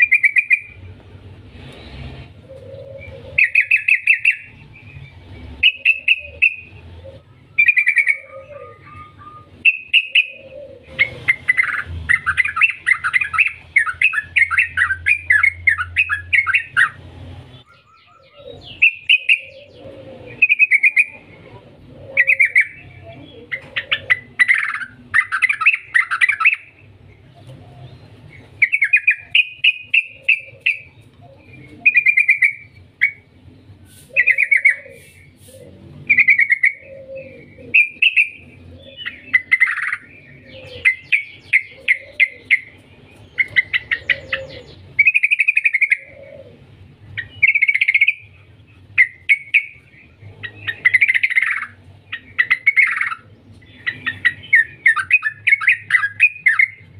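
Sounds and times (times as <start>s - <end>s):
bird chattering song: 0.0s - 1.0s, 2.3s - 56.9s.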